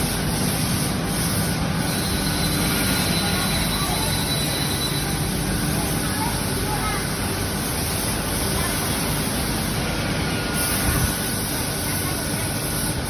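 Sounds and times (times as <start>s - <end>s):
machine humming: 0.0s - 10.8s
faint high machine whine: 0.0s - 13.0s.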